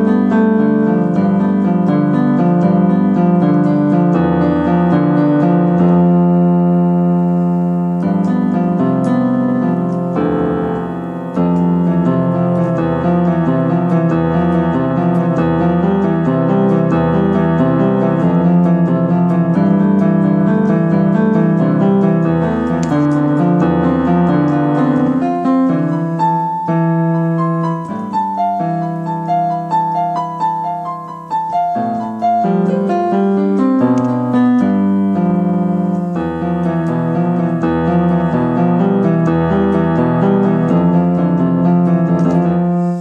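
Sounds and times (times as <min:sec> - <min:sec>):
piano chords and melody: 0:00.0 - 0:43.0.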